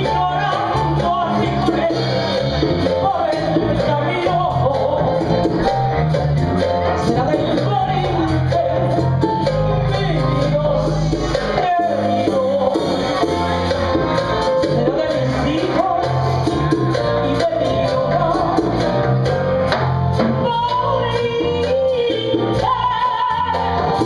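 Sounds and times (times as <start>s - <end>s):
woman singing: 0.0s - 5.6s, 6.8s - 19.1s, 20.2s - 24.0s
electric bass: 0.0s - 24.0s
keyboard: 0.0s - 24.0s.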